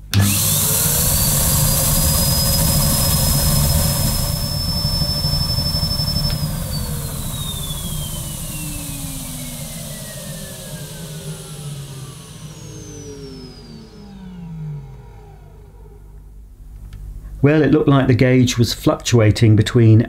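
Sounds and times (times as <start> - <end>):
vacuum cleaner motor whine: 0.0 - 17.3.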